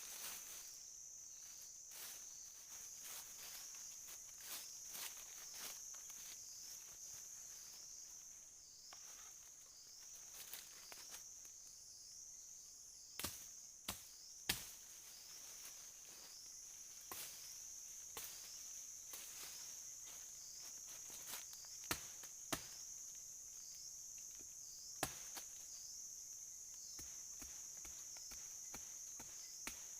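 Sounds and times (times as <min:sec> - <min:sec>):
insect chirring: 0:00.0 - 0:29.9.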